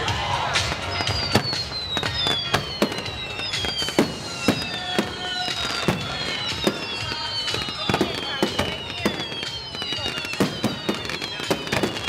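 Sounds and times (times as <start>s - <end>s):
firework whistles sliding down: 0.0s - 12.0s.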